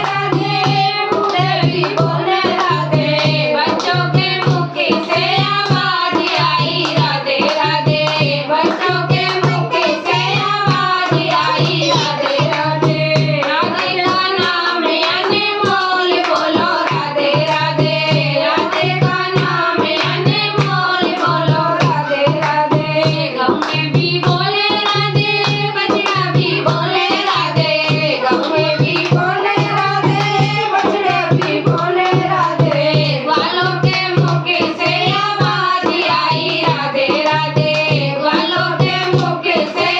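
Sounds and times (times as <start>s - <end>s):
person singing devotional song: 0.0s - 39.9s
steady drum beat: 0.0s - 39.9s.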